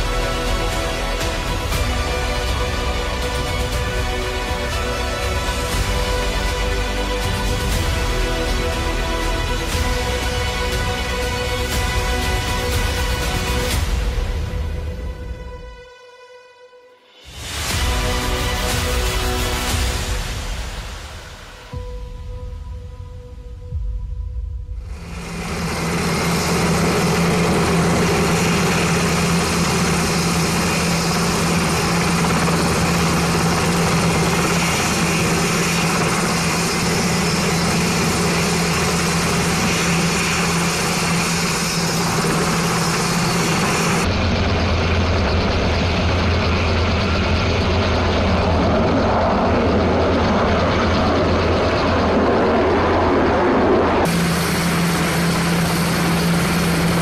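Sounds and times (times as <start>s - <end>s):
helicopter engines and rotors: 0.0s - 15.9s, 17.2s - 57.0s.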